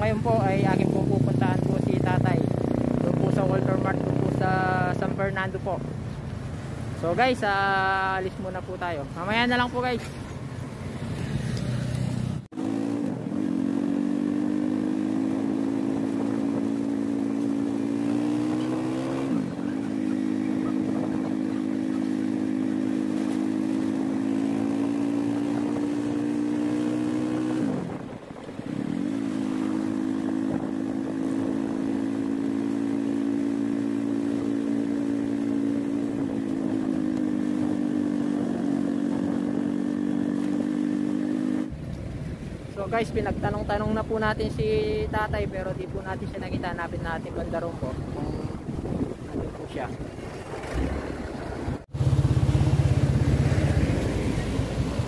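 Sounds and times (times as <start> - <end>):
motorcycle engine running: 0.0 - 5.7, 10.9 - 42.7, 43.3 - 55.0.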